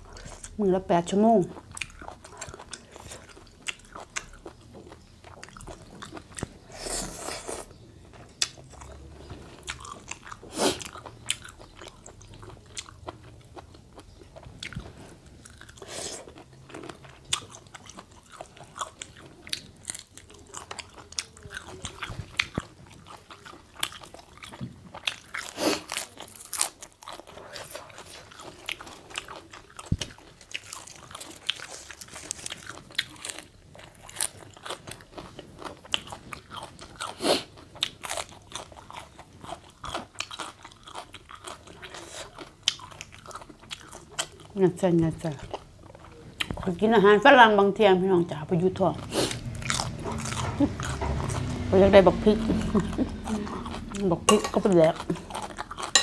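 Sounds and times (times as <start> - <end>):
person chewing with crisp crunches: 1.2 - 46.8, 48.8 - 56.0.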